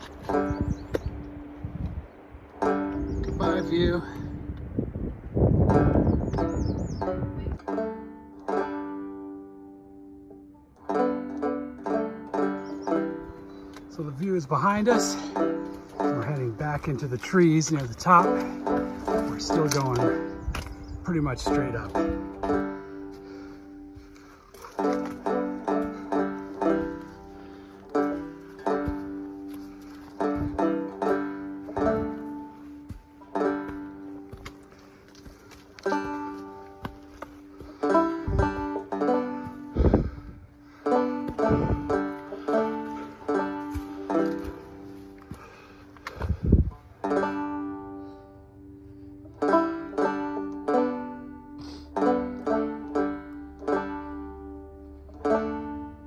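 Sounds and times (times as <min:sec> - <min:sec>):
banjo plucking: 0:00.0 - 0:04.8, 0:05.4 - 0:56.0.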